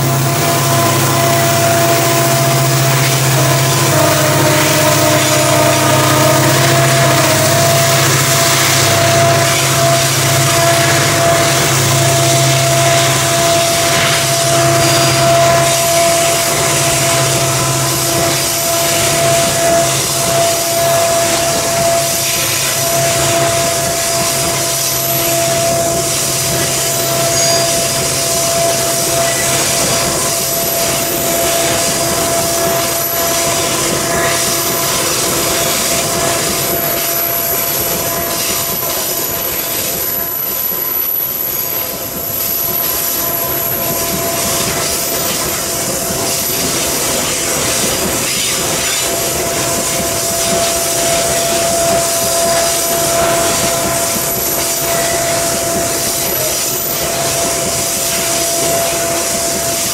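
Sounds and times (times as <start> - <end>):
diesel locomotive engine drone: 0.0 - 59.9
train wheels rumbling on rails: 0.0 - 59.9.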